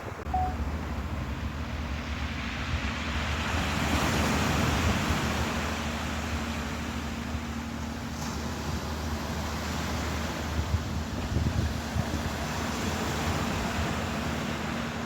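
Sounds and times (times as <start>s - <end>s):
ocean waves breaking: 0.0s - 15.0s
wind rumble on microphone: 0.0s - 15.0s.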